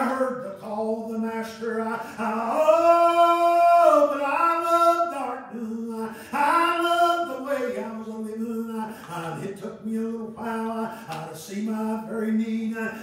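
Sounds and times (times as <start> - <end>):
man singing long notes: 0.0 - 13.0.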